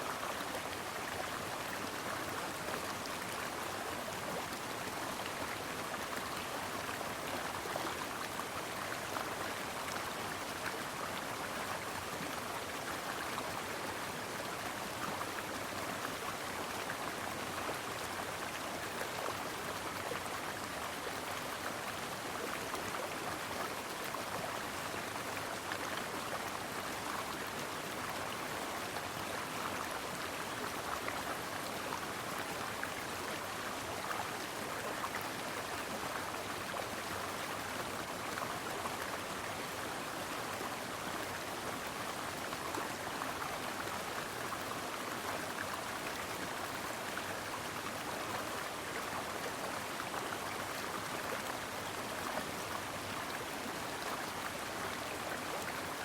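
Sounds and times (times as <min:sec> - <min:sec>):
stream babbling over rocks: 0:00.1 - 0:56.0.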